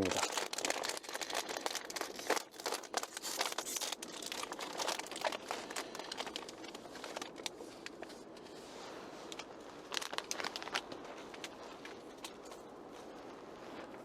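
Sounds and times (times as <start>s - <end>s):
plastic snack bag crinkling: 0.0s - 8.6s, 9.2s - 13.9s.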